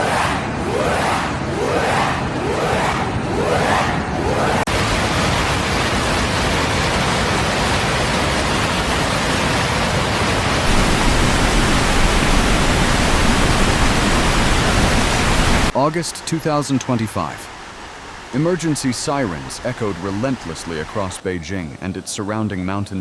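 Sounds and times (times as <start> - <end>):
rushing water: 4.4 - 23.0.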